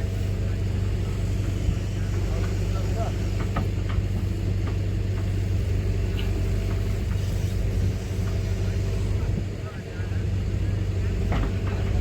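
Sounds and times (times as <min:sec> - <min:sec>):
heavy diesel engine humming: 0:00.0 - 0:12.0.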